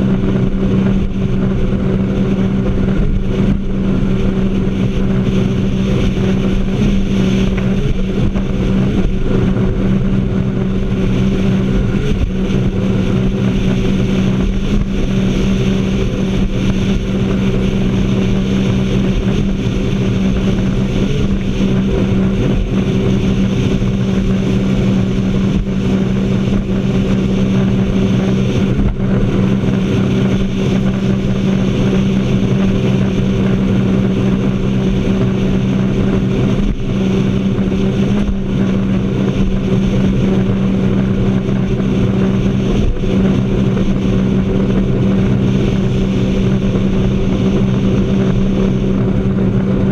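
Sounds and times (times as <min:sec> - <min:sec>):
jet ski engine running: 0:00.0 - 0:49.9.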